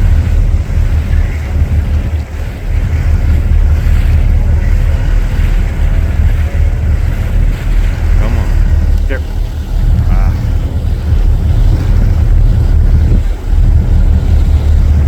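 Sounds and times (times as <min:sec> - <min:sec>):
hiss of wind and water: 0:00.0 - 0:15.0
wind buffeting microphone: 0:00.0 - 0:15.0.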